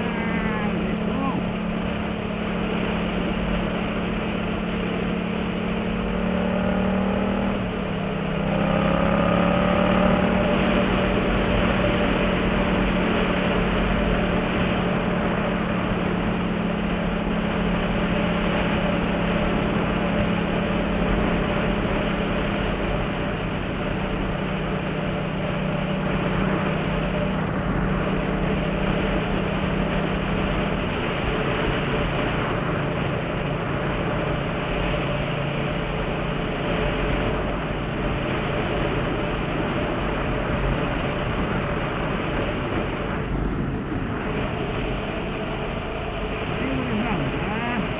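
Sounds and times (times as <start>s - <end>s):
motorcycle engine at speed: 0.0s - 47.9s.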